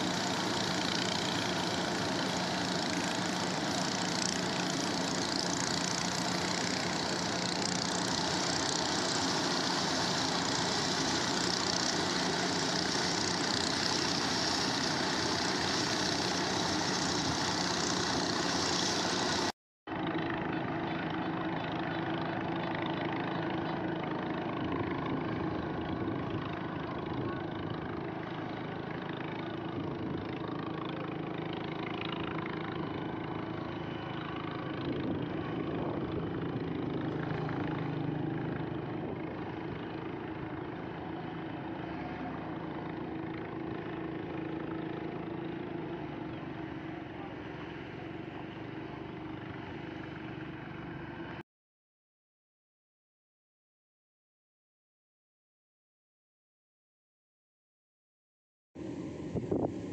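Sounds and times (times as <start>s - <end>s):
distant combine harvester engine: 0.0s - 51.4s, 58.8s - 59.9s.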